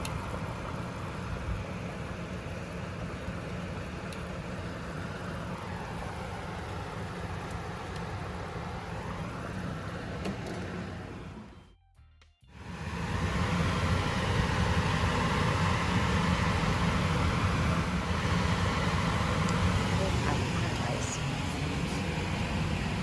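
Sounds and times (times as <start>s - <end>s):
range hood fan rushing: 0.0s - 11.7s, 12.5s - 23.0s.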